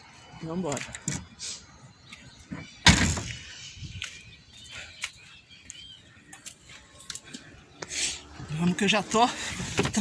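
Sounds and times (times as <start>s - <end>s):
high bird chirps: 0.0s - 8.4s.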